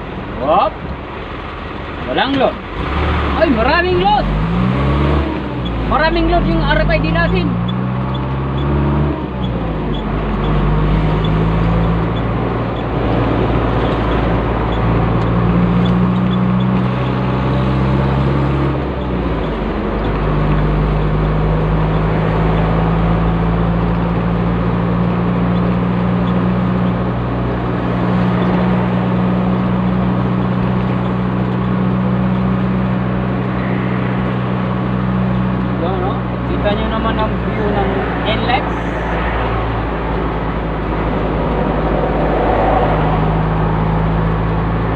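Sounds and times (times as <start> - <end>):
diesel engine running: 0.0 - 44.9
tyre and road noise: 0.0 - 44.9.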